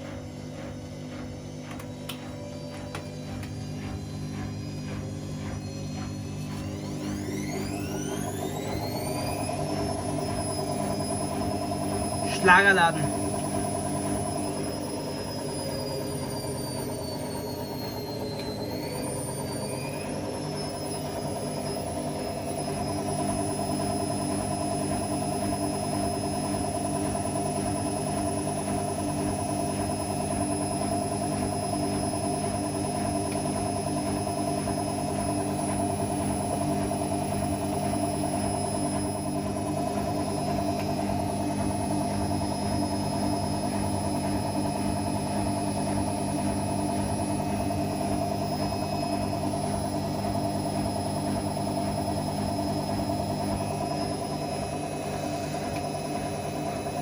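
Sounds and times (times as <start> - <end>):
washing machine running: 0.0 - 57.0.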